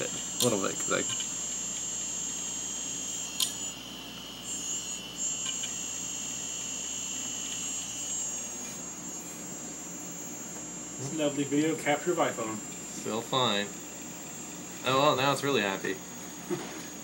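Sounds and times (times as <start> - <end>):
hard drive whine and hum: 0.0 - 17.0.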